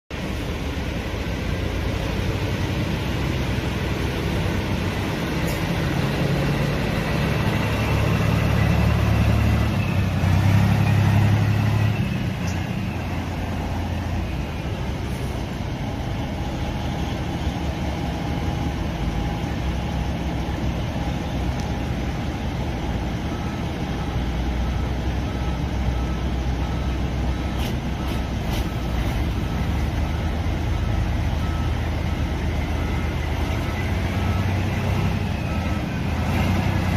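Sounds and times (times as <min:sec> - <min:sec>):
diesel truck engine idling: 0:00.1 - 0:36.9
faint reversing beeper: 0:05.3 - 0:36.9.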